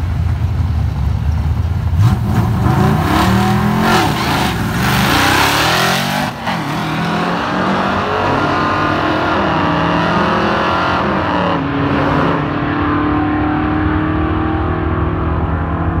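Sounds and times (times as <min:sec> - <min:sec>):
drag racing cars accelerating: 0:01.9 - 0:16.0
engines revving at full throttle: 0:01.9 - 0:16.0.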